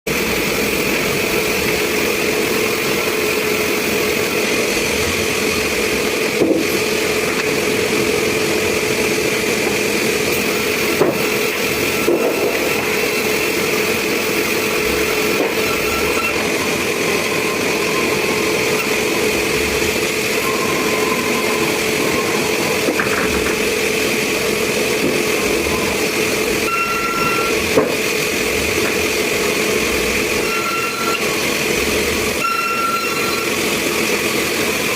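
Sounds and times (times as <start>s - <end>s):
sawmill machinery drone: 0.1s - 34.9s.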